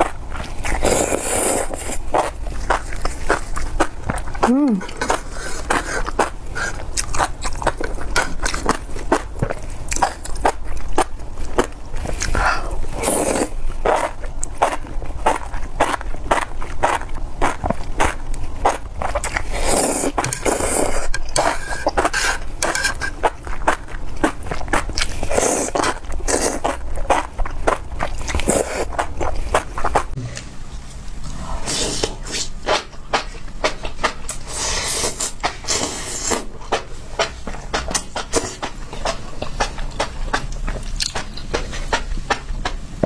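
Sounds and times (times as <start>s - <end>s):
chewing with mouth clicks: 0.0s - 30.5s, 35.2s - 42.8s.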